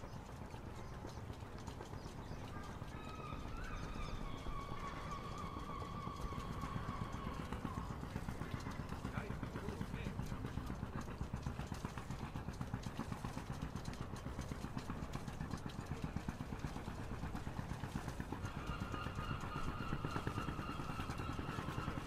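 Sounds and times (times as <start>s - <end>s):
boat engine idling: 0.0s - 22.0s
faint steady whine: 0.0s - 22.0s.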